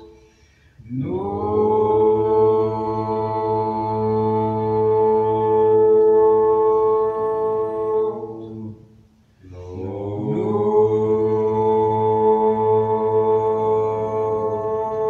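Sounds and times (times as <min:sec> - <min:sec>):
man chanting: 0:00.8 - 0:15.0.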